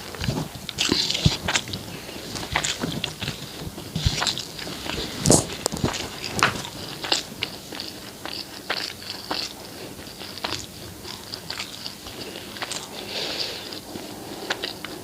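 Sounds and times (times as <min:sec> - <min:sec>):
chewing food with mouth clicks: 0:00.0 - 0:15.0.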